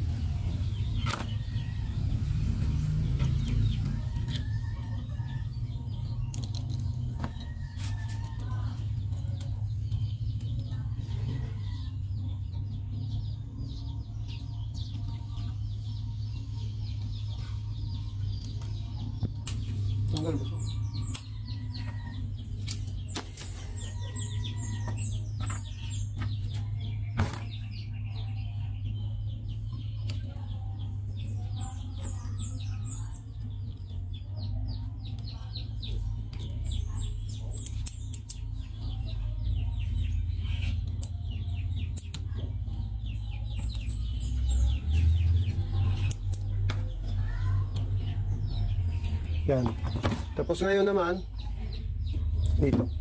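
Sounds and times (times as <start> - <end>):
small birds chirping: 0.0 - 53.0
steady low hum: 0.0 - 53.0.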